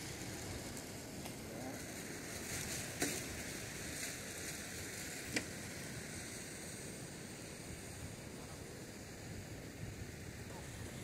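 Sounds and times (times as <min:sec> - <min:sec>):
surf hissing on beach: 0:00.0 - 0:11.0
wind: 0:00.0 - 0:11.0.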